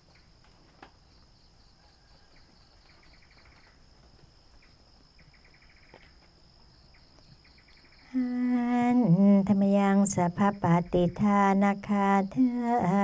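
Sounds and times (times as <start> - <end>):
crickets trilling: 0.0 - 13.0
rapid cricket chirps: 0.0 - 13.0.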